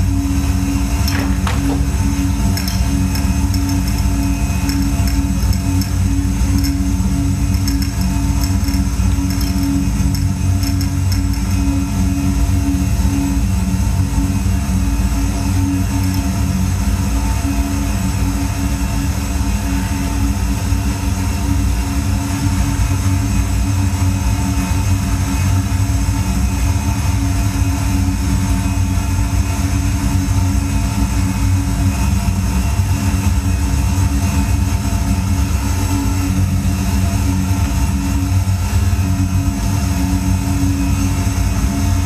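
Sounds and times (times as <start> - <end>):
electronic low rumbling drone: 0.0 - 42.0.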